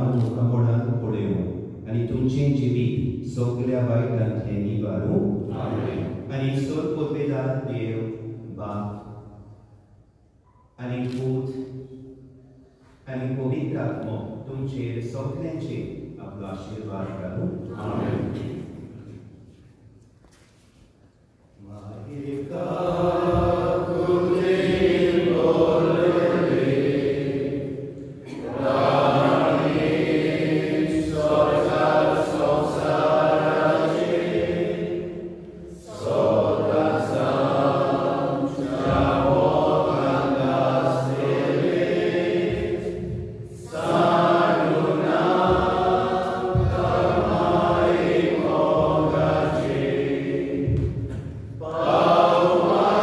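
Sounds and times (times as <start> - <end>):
congregation singing a hymn: 0.0 - 9.3, 10.4 - 19.7, 21.6 - 53.0.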